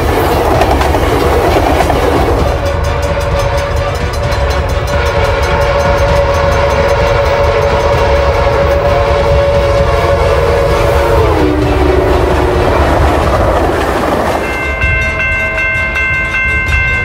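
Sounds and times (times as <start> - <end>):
moving train rumble: 0.0 - 17.0
train horn long note: 2.2 - 15.9.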